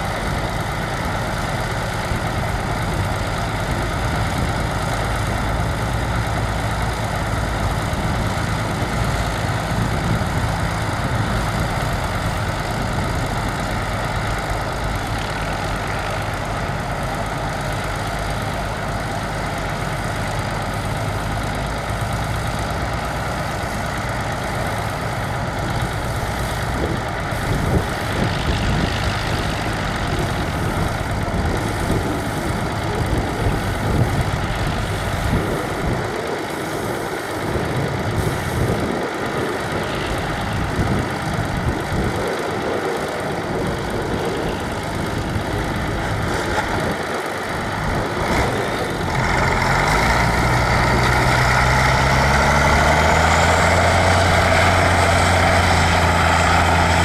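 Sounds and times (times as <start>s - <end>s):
tractor engine accelerating close by: 0.0s - 57.0s
tractor engines running: 0.0s - 57.0s.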